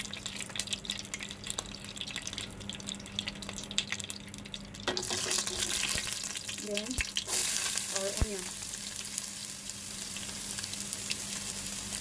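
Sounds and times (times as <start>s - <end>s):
spices frying in hot oil: 0.0s - 12.0s.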